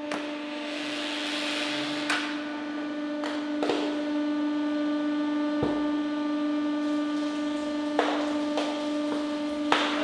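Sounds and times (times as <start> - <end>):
hydraulic pump humming: 1.7 - 10.0.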